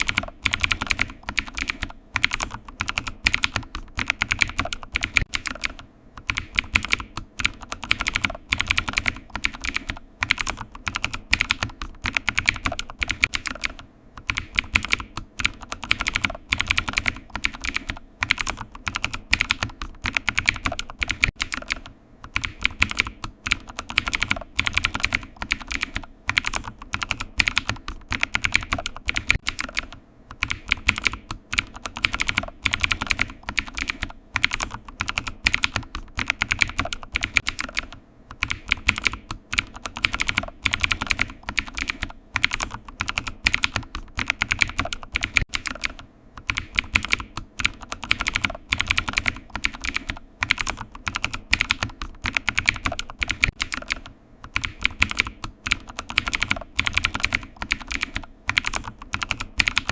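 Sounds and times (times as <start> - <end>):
computer keyboard typing: 0.0 - 59.9.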